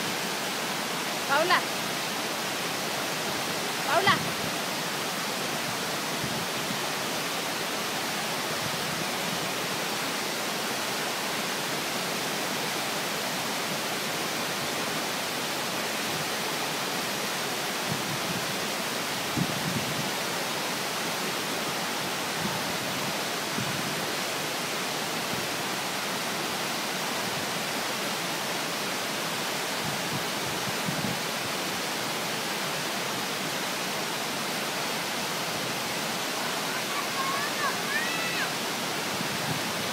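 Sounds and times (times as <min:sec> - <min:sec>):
waterfall rushing onto rocks: 0:00.0 - 0:39.9.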